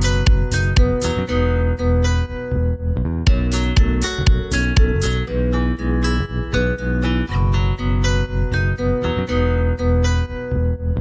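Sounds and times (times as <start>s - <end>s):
acoustic guitar and bass music: 0.0s - 11.0s.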